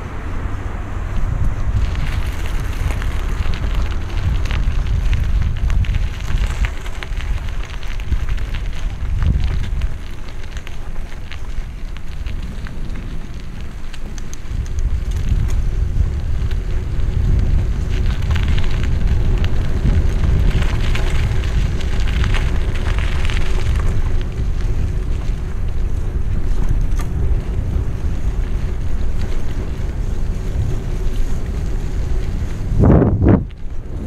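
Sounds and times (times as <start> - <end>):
bike rattling: 0.0 - 34.0
tyres crackling on gravel: 0.0 - 34.0
wind buffeting microphone: 0.0 - 34.0.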